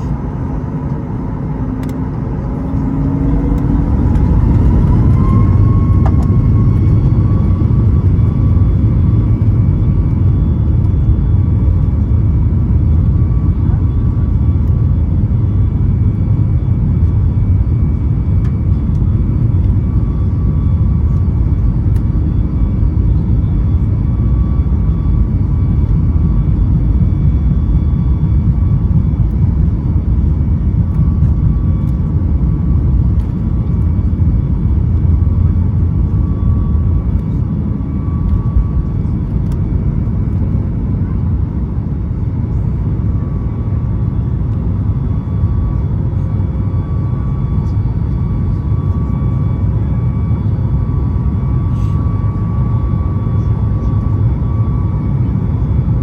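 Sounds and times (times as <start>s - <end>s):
airplane cabin rumble: 0.0s - 56.0s
faint whining tones: 0.0s - 56.0s.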